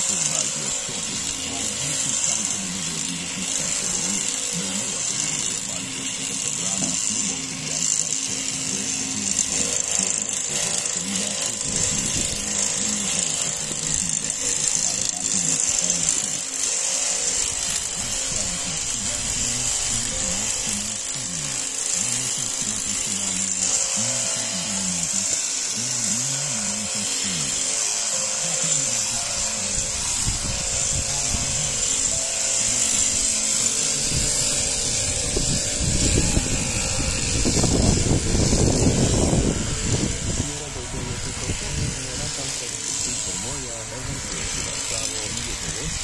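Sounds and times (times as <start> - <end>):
shearing handpiece buzzing: 0.0 - 46.0.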